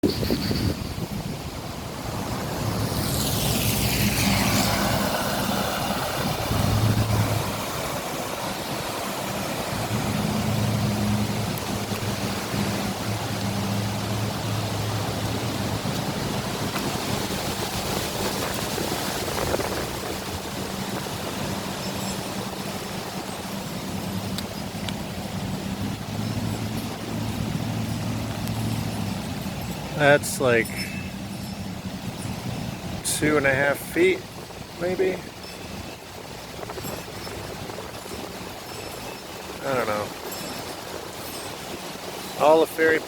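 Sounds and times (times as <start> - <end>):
vehicle engine humming: 0.0 - 42.6
wind noise: 0.0 - 43.0.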